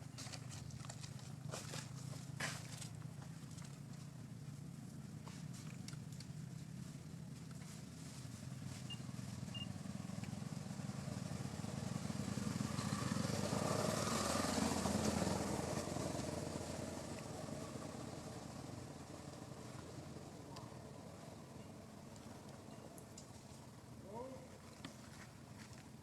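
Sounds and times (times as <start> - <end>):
vehicle engine hum passing: 0.0 - 26.0.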